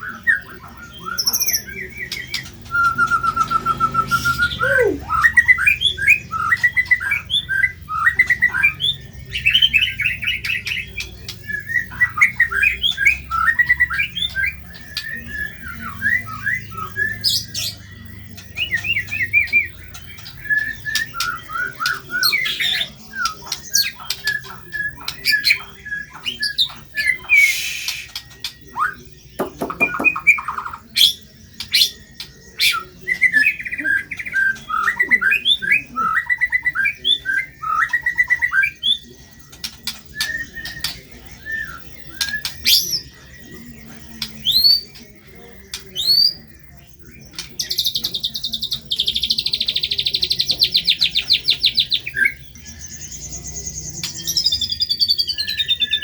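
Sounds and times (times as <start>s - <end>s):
bird singing varied whistled song: 0.0s - 56.0s
harsh rasping bird calls: 0.0s - 56.0s.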